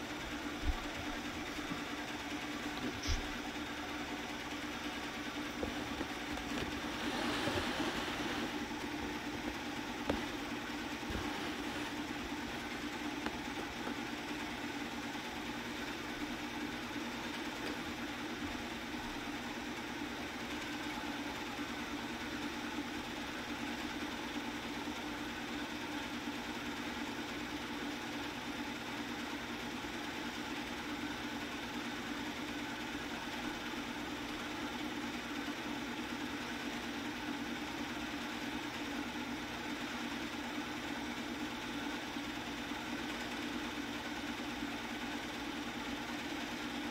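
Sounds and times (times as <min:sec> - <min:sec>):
film projector humming: 0:00.0 - 0:46.9.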